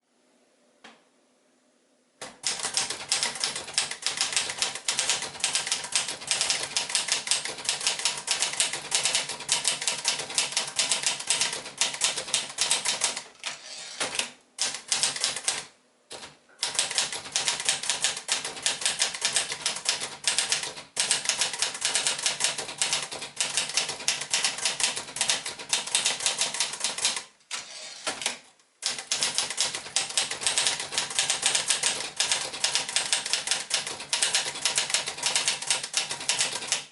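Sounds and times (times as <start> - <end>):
manual typewriter typing: 2.2 - 13.3, 14.0 - 27.3, 28.0 - 36.9.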